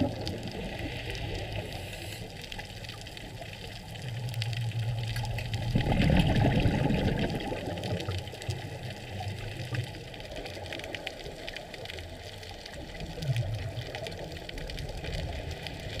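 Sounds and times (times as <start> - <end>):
crackle of faint clicks: 0.0 - 16.0
regulator bubbles gurgling: 0.0 - 16.0.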